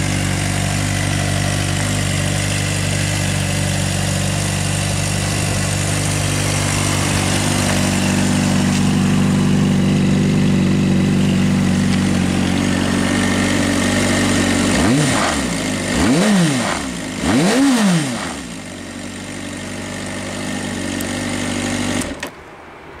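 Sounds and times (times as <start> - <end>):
motorcycle engine idling and revving: 0.0 - 22.4.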